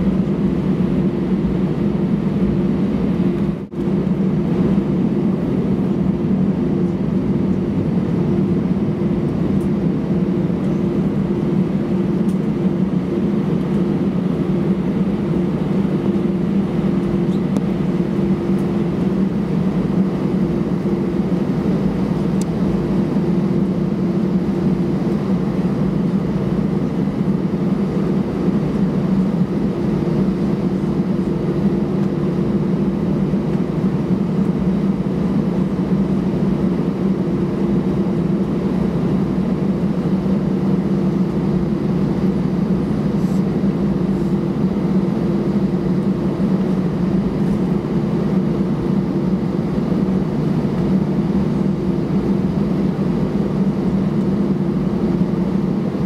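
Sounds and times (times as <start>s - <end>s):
jet engines idling rumble: 0.0s - 56.0s.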